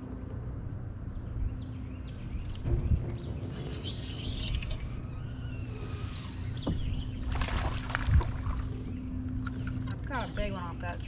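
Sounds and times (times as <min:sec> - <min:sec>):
low hum: 0:00.0 - 0:11.0
low rumble: 0:00.0 - 0:11.0.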